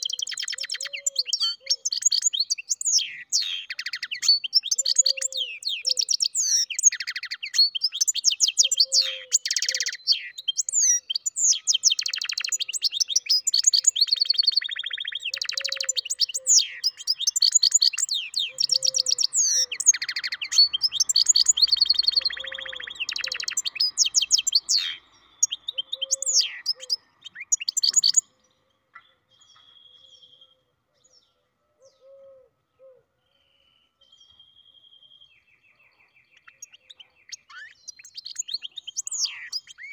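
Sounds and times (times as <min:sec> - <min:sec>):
bird singing rapid trills: 0:00.0 - 0:28.5, 0:33.5 - 0:39.9.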